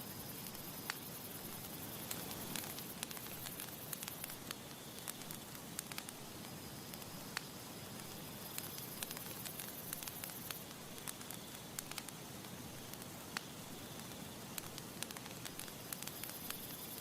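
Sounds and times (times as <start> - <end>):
gentle breeze hiss: 0.0 - 17.0
campfire crackling and popping: 0.1 - 17.0.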